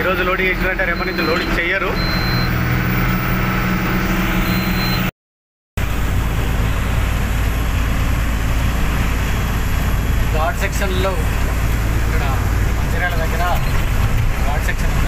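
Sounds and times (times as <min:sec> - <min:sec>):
diesel truck engine running: 0:00.0 - 0:05.1, 0:05.8 - 0:15.0
road noise: 0:00.0 - 0:05.1, 0:05.8 - 0:15.0.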